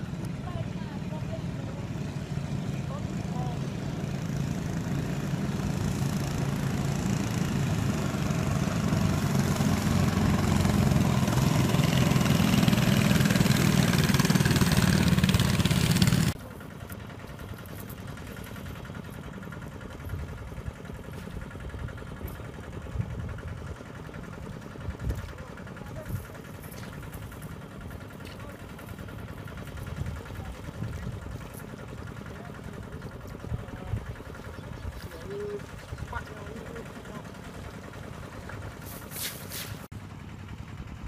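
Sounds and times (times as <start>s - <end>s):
motorboat engine passing: 0.0s - 41.0s.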